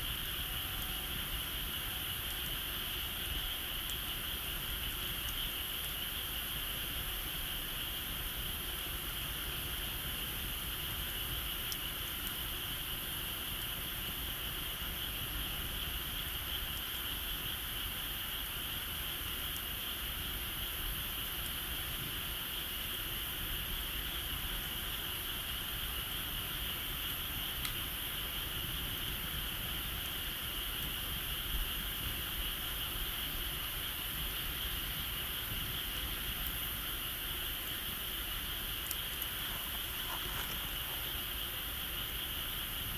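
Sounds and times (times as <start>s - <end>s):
insects trilling: 0.0s - 42.9s
wood fire crackling: 0.1s - 23.3s, 25.0s - 42.9s.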